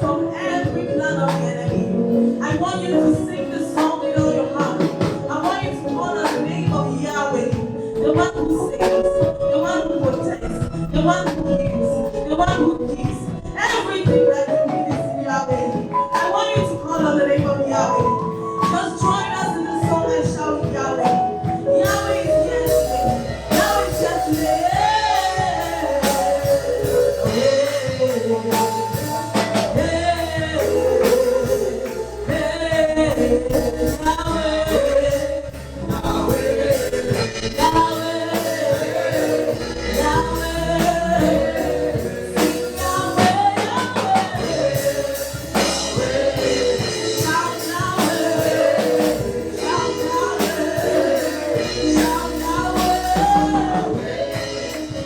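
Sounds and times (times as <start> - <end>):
choir singing gospel: 0.0 - 55.0
live church band: 0.0 - 55.0.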